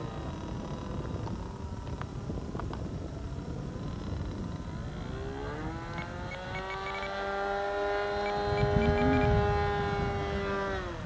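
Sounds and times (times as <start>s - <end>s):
model plane engine in flight: 0.0s - 11.0s.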